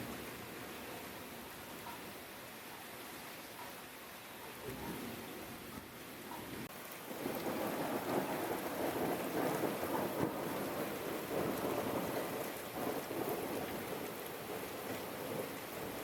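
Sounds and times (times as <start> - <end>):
steady rain hiss: 0.0 - 16.0
raindrop ticks: 0.8 - 16.0.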